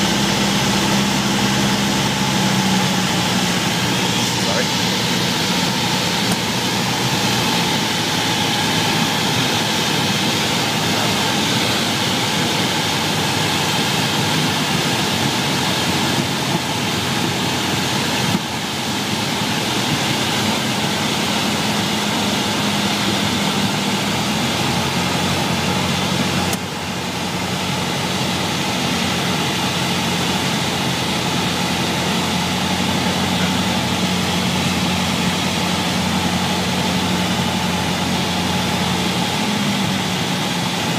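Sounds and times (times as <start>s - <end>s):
light airplane engine and propeller drone: 0.0s - 40.9s.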